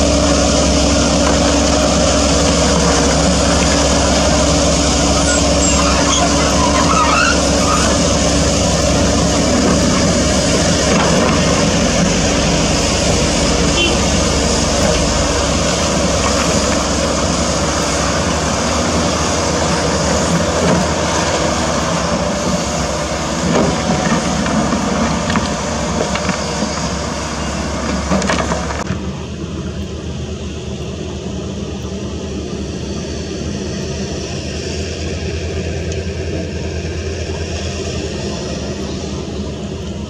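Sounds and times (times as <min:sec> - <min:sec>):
diesel truck engine: 0:00.0 - 0:40.0.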